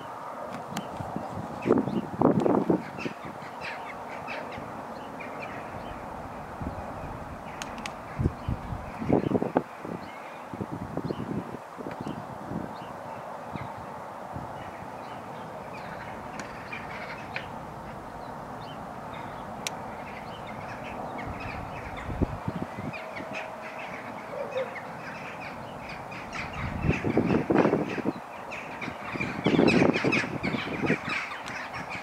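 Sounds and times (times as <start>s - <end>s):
small birds chirping: 0.0s - 32.0s
steady background hiss: 0.0s - 32.0s.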